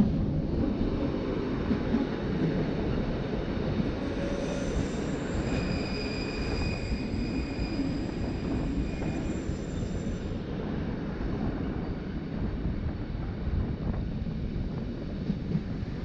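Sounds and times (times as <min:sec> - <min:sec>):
electric train rumbling on rails: 0:00.0 - 0:16.0.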